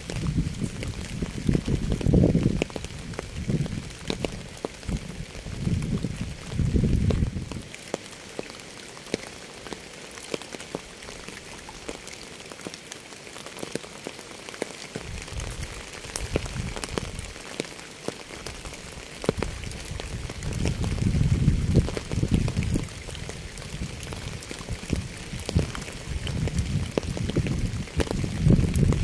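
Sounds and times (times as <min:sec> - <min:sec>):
raindrops ticking on a surface: 0:00.0 - 0:29.0
steady rain: 0:00.0 - 0:29.0.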